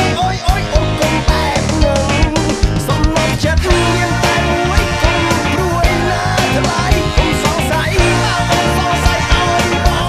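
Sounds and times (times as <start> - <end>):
band with drums bass and guitar: 0.0 - 10.0
man singing: 0.0 - 10.0.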